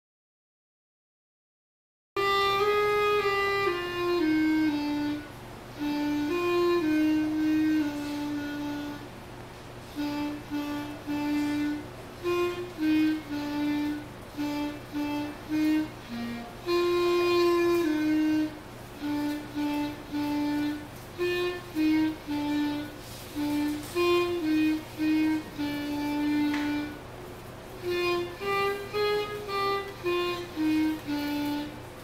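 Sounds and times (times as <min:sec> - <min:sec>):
solo clarinet melody: 0:02.2 - 0:32.0.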